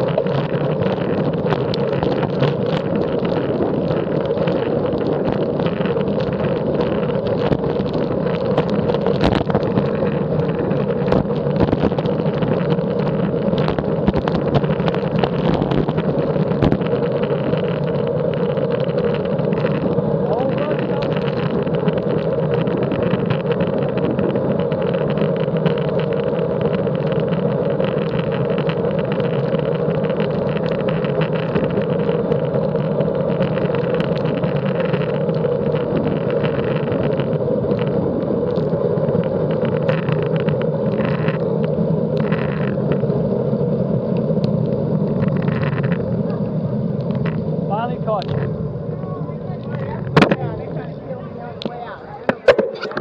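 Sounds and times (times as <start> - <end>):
wind and road noise: 0.0 - 53.0.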